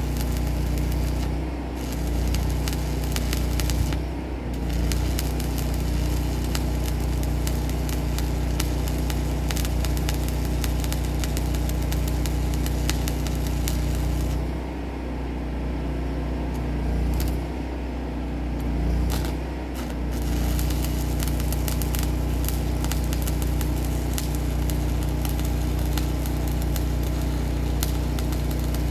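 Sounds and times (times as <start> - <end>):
arc welding crackle and sizzle: 0.0 - 14.8, 16.4 - 28.9
steady engine drone: 0.0 - 28.9.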